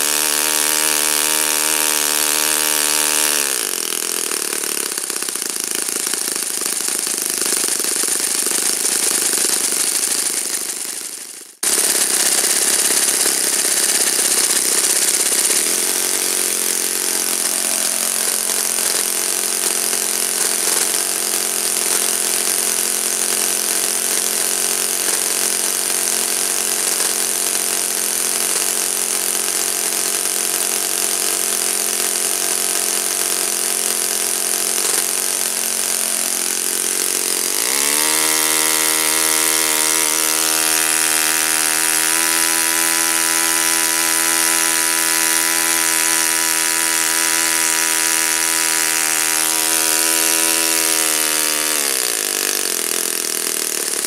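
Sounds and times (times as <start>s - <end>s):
model aircraft engine running: 0.0s - 54.0s.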